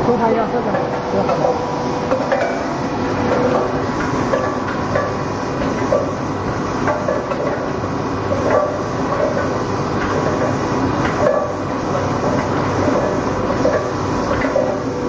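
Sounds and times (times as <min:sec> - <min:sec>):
machine clattering: 0:00.0 - 0:15.0.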